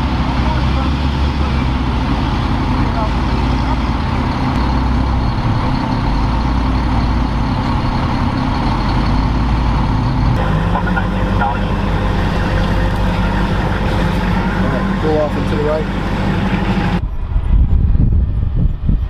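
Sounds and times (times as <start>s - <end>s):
heavy truck engine rumbling: 0.0s - 19.0s.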